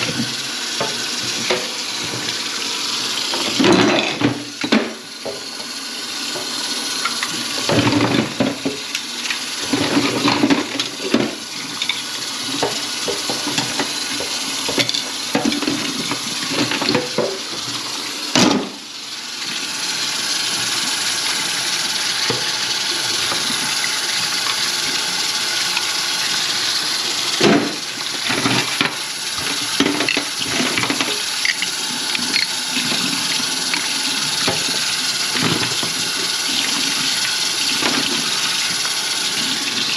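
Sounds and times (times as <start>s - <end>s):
water running in a sink: 0.0s - 39.9s.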